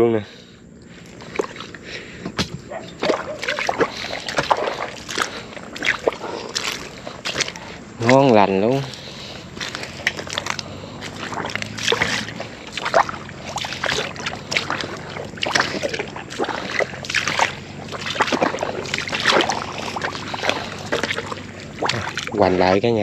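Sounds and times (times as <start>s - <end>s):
footsteps squelching through mud: 0.7s - 23.0s.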